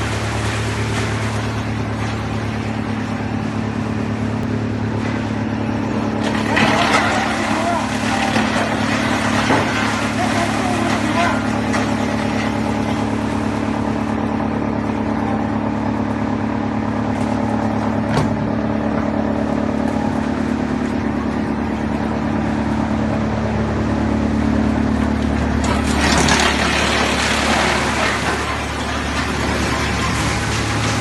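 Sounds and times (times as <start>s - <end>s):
rough noisy grinding sound: 0.0s - 31.0s
wood chipper humming: 0.0s - 31.0s.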